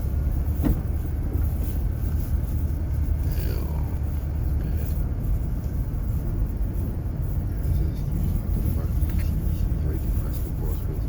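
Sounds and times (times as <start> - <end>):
vehicle rumble from inside: 0.0 - 11.0.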